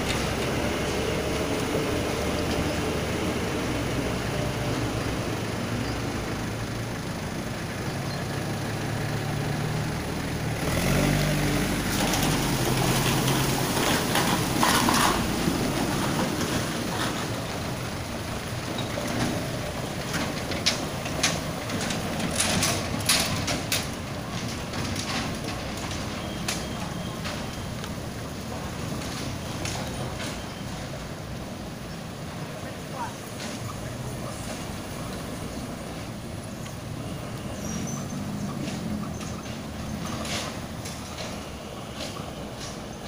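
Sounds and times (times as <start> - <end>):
diesel truck engine running: 0.0 - 43.0.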